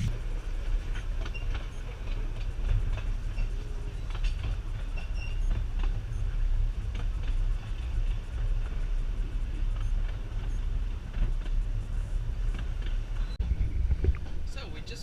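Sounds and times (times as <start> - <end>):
small train rumbling: 0.0 - 15.0.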